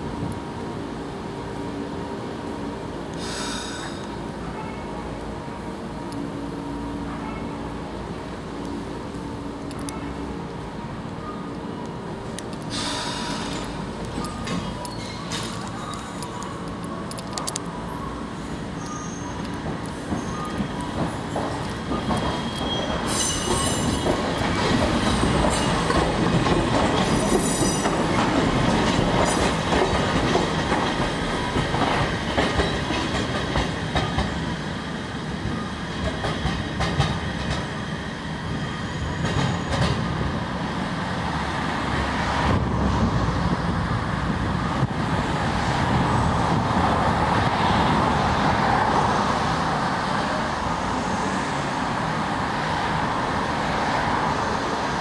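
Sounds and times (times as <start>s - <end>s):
tram wheels rumbling over rail joints: 7.6s - 55.0s.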